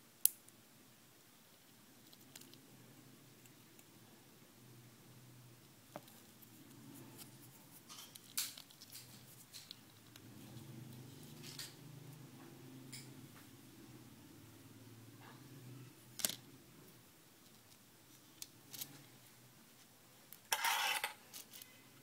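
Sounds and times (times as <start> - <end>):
faint steady low hum: 0.0 - 22.0.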